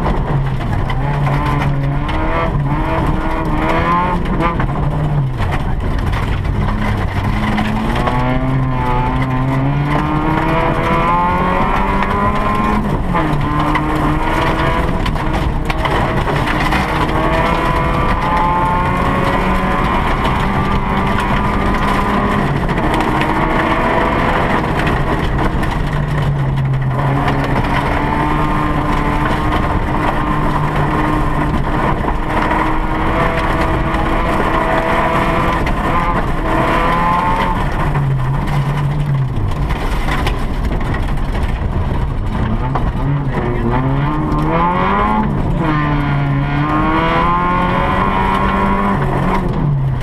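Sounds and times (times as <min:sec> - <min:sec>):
rally car engine at high revs: 0:00.0 - 0:50.0.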